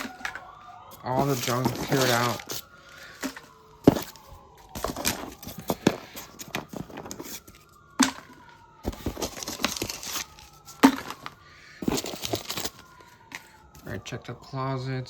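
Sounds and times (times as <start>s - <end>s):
handling noise of small objects: 0.0s - 14.0s.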